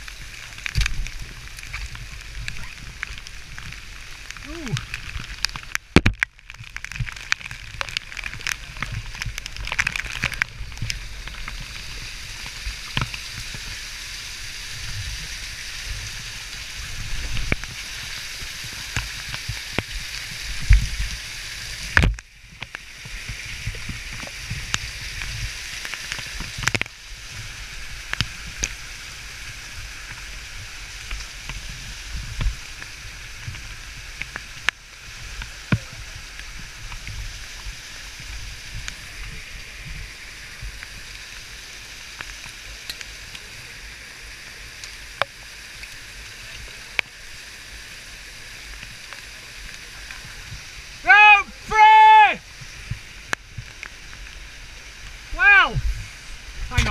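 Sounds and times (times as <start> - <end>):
waterfall rushing over rock: 0.0 - 56.9.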